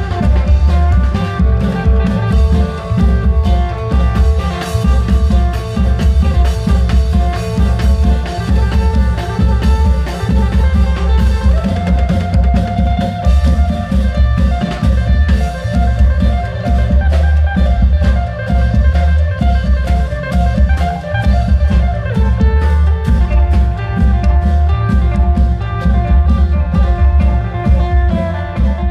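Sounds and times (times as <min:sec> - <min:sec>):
heavy drum beat: 0:00.0 - 0:28.9
percussion strikes: 0:00.0 - 0:28.9
sustained melodic line: 0:00.0 - 0:28.9.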